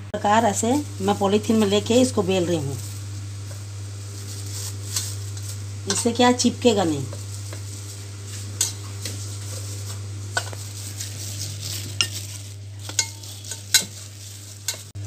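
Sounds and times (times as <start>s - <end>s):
steady low hum: 0.0s - 15.0s
plastic sheet rustling: 0.5s - 15.0s.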